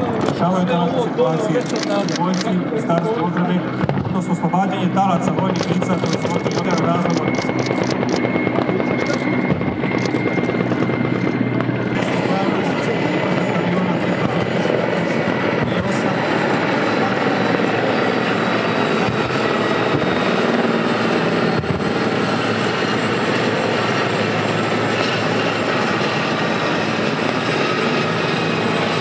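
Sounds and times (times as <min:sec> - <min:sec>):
helicopter rotor and turbine noise: 0:00.0 - 0:29.0.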